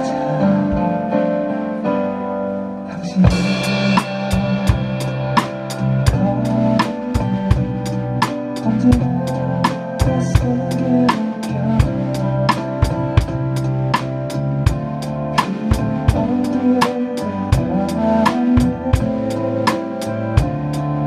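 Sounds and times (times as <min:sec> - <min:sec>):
band backing track: 0:00.0 - 0:21.0
held keyboard chords: 0:00.0 - 0:21.0
drum kit beat: 0:03.2 - 0:21.0.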